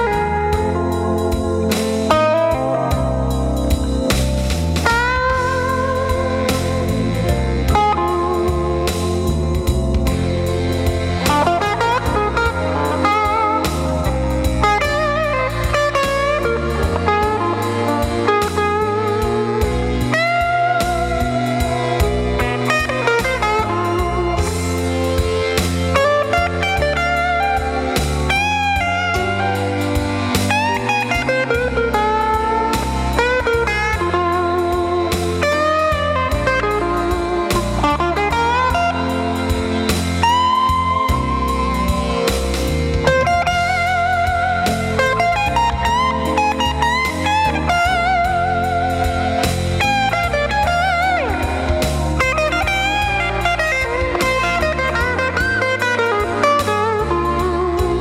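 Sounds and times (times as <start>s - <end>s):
low accompaniment: 0.0s - 58.0s
overdriven electric blues guitar: 0.0s - 58.0s.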